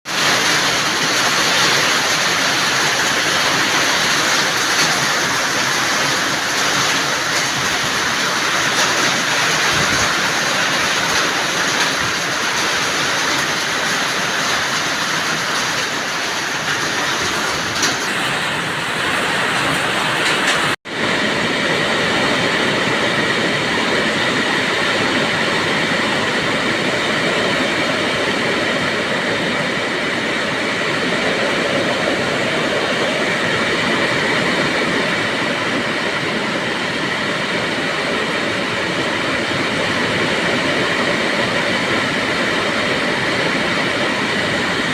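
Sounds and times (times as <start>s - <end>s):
rain falling: 0.1s - 44.9s.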